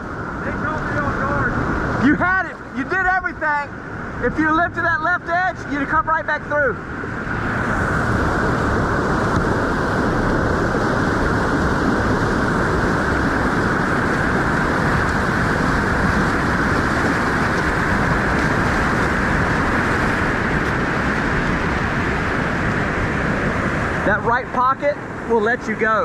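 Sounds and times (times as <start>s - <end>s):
whitewater rushing: 0.0s - 26.0s.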